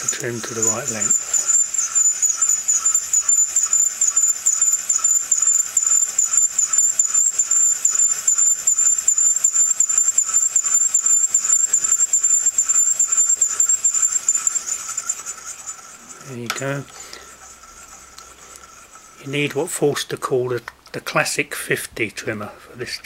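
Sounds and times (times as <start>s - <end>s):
cutter squealing against brass case: 0.0s - 19.7s.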